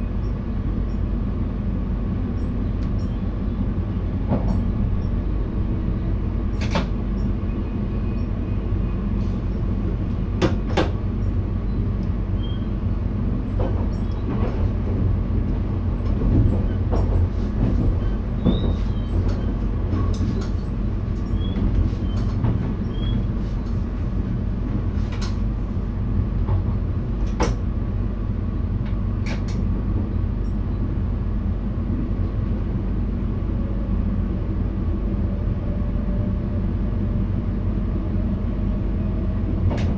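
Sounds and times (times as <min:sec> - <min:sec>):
train low rumble: 0:00.0 - 0:39.9.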